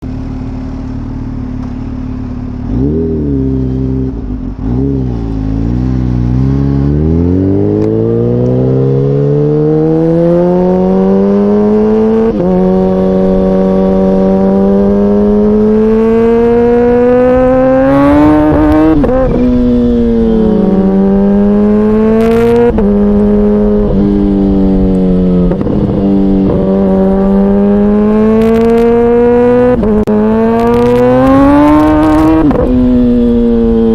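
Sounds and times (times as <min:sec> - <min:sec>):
motorcycle engine revving and accelerating: 0:00.0 - 0:33.9.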